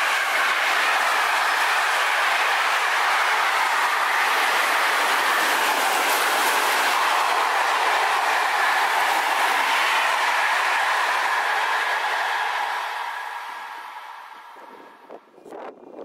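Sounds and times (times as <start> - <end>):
train wheels rushing on rails: 0.0 - 15.2.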